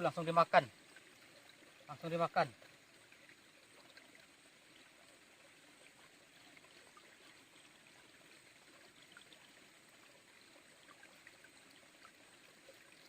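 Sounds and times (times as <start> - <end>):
small stream trickling: 0.0 - 13.0.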